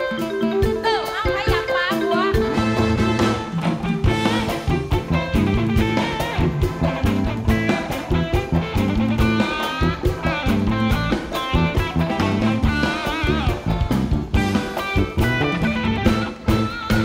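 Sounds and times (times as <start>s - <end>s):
bass: 0.0s - 17.0s
drum-kit beat: 0.0s - 17.0s
electric guitar lead: 0.0s - 17.0s.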